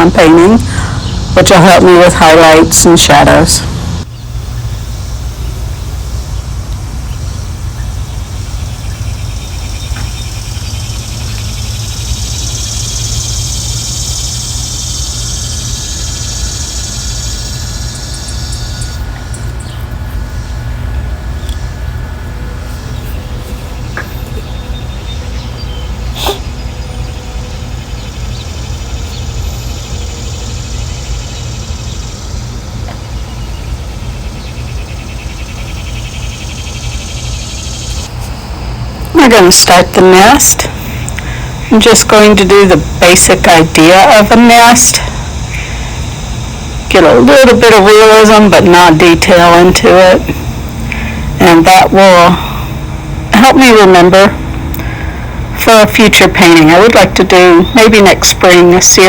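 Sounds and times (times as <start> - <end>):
steady low rumble: 0.0 - 37.3, 37.9 - 59.0
high rapidly pulsing buzz: 0.0 - 59.0.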